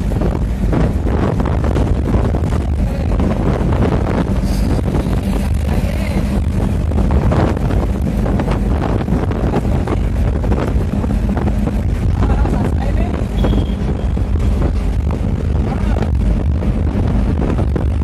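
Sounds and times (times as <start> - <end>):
bus engine and road noise: 0.0 - 18.0
wind buffeting microphone: 0.0 - 18.0.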